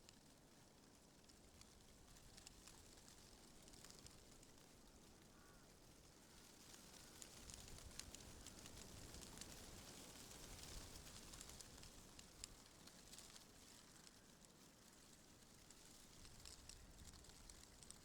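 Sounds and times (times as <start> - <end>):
leaves rustling in wind: 0.1 - 18.0.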